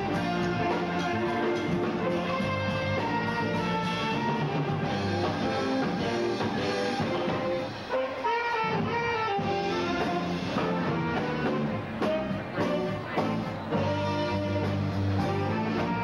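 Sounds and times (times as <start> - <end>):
drum kit: 0.0 - 16.0
jazz guitar: 0.0 - 16.0.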